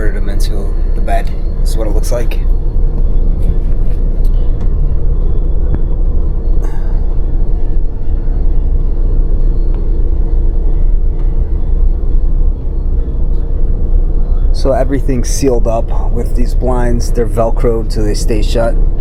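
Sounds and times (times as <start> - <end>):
constant hum: 0.0 - 19.0
moving train rumble: 0.0 - 19.0.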